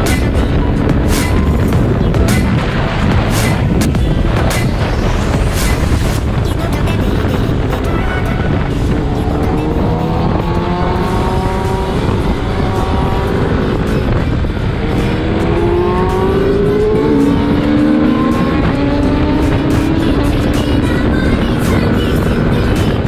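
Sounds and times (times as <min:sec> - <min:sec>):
heavy wind rush: 0:00.0 - 0:23.0
motorcycle engine accelerating: 0:00.0 - 0:23.0.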